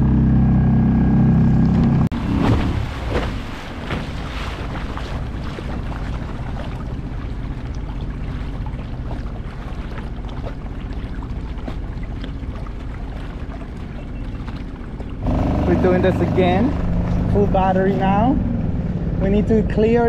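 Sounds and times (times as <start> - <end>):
water splashing along kayak hull: 1.5 - 20.0.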